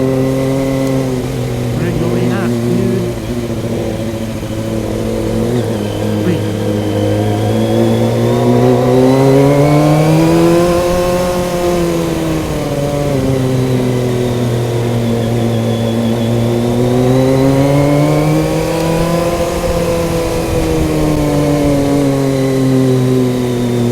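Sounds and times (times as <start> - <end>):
motorcycle engine under load: 0.0 - 23.9.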